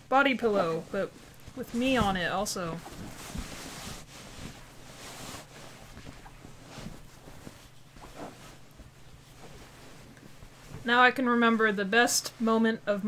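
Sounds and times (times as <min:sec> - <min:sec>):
fabric rustling: 0:00.1 - 0:13.0.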